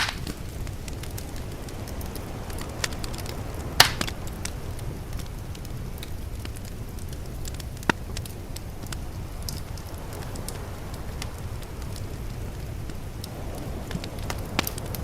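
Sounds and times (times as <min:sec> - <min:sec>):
sharp pops of fire: 0:00.0 - 0:15.0
steady low rumble: 0:00.0 - 0:15.0
wood fire crackling: 0:00.0 - 0:15.0.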